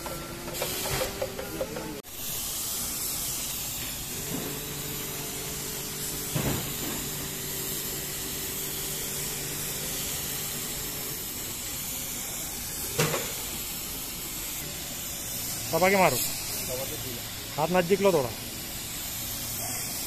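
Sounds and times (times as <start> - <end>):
spray gun hissing: 0.5 - 20.0.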